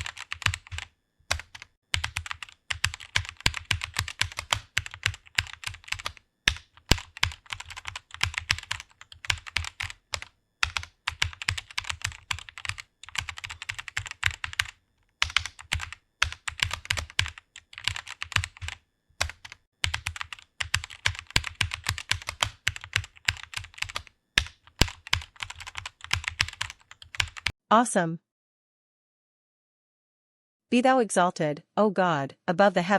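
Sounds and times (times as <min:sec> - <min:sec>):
fast keyboard typing: 0:00.0 - 0:27.6.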